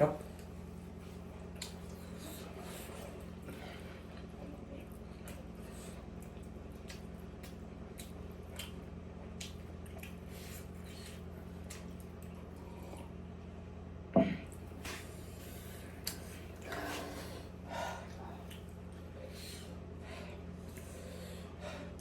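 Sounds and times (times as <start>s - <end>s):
steady low hum: 0.0s - 22.0s
wet chewing sounds: 0.2s - 13.8s, 14.4s - 22.0s.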